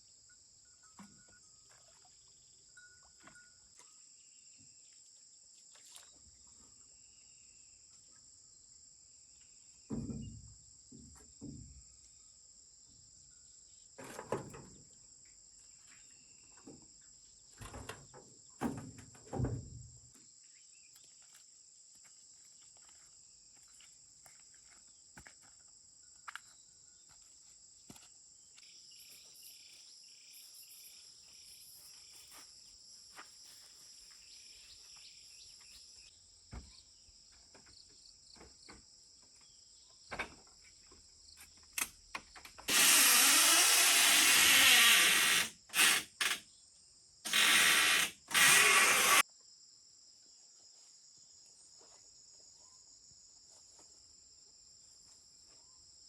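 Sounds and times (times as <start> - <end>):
crickets chirping: 0.0 - 18.1, 18.7 - 56.0.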